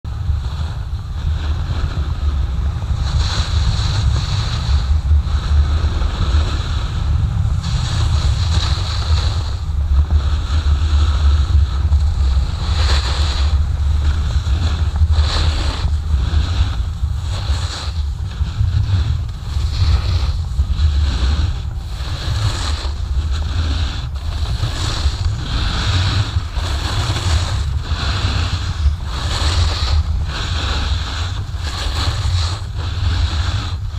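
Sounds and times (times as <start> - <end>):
wind rumbling on microphone: 0.0 - 33.9
snowboard edge scraping snow: 0.1 - 33.9.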